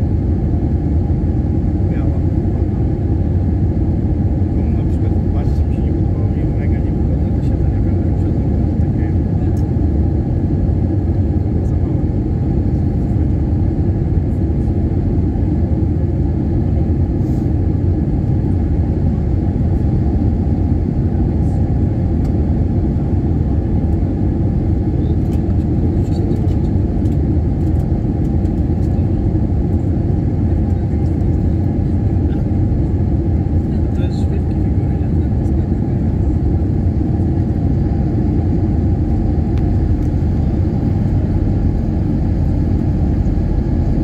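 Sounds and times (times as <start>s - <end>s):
airplane cabin engine rumble: 0.0s - 44.0s.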